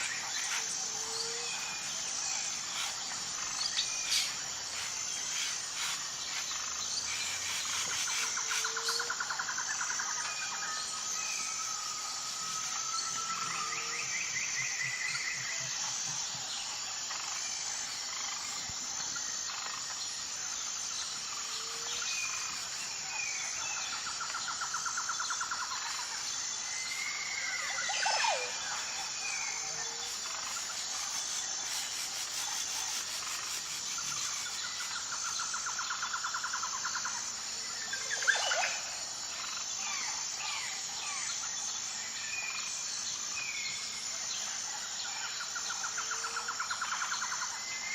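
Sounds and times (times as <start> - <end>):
insect chorus: 0.0 - 47.9
wild birds singing: 0.0 - 47.9.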